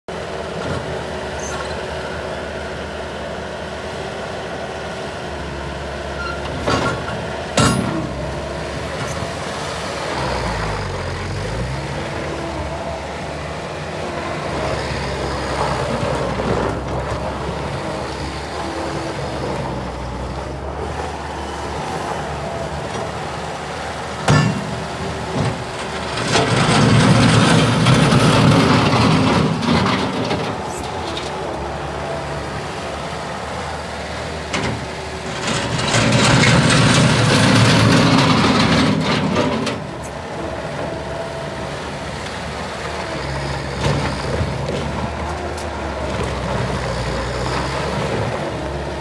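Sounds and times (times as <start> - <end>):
diesel engine running: 0.1 - 49.0.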